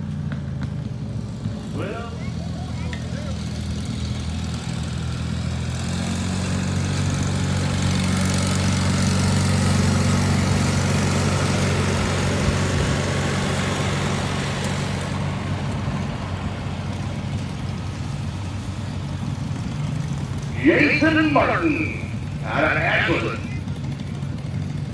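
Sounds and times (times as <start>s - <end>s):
tractor engine running under load: 0.0s - 24.9s.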